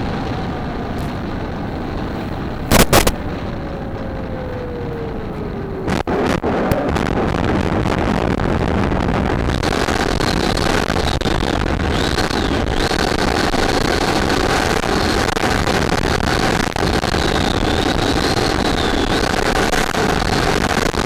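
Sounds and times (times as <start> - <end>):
loud crackling bursts: 0.0 - 21.0
rush of wind and airframe: 0.0 - 21.0.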